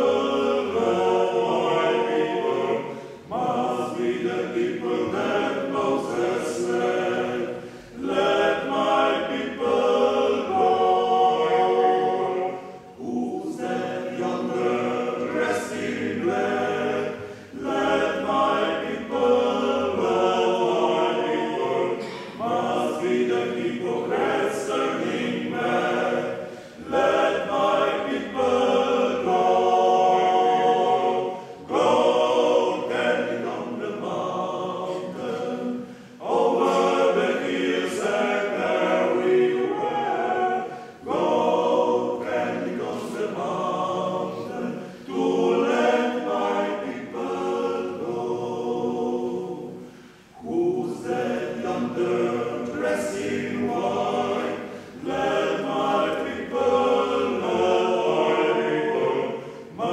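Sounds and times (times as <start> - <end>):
male choir singing a cappella: 0.0 - 59.9.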